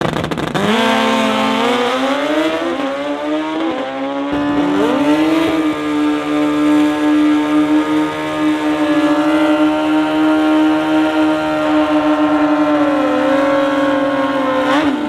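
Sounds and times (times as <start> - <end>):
motorcycle engine at full throttle: 0.0 - 15.0.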